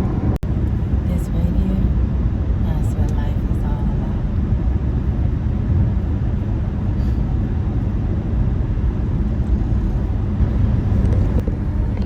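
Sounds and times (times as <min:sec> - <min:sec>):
car interior road noise: 0:00.0 - 0:12.0.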